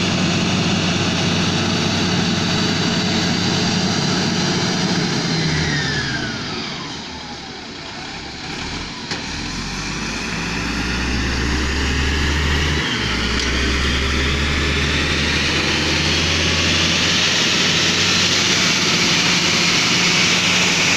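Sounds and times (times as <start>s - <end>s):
diesel engine under load: 0.0s - 20.9s.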